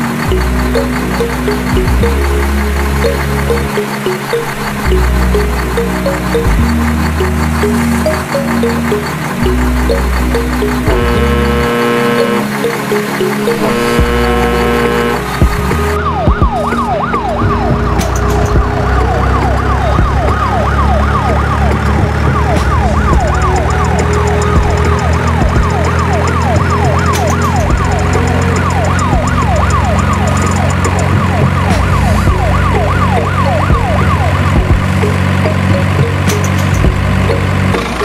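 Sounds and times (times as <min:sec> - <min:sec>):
siren yelping: 0:00.0 - 0:38.0.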